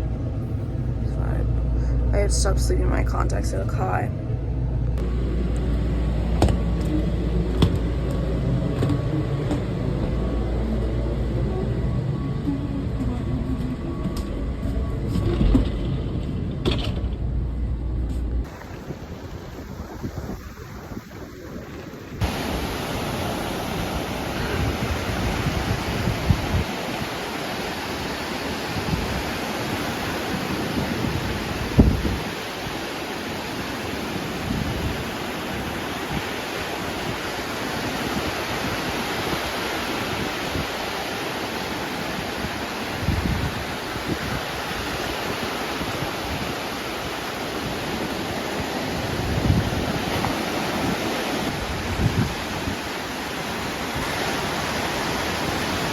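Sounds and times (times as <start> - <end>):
ocean surf: 0.0 - 55.9
wind buffeting the microphone: 0.0 - 55.9.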